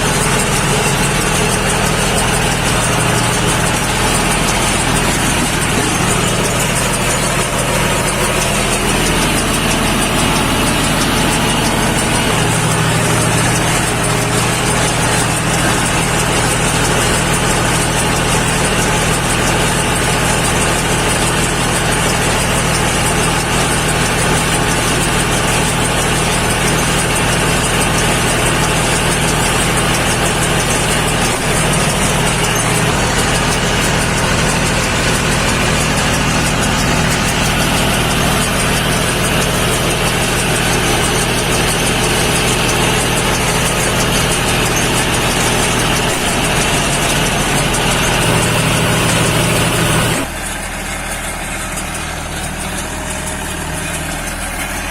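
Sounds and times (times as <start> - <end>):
baler mechanical rattle: 0.0 - 54.9
tractor engine under load: 0.0 - 54.9.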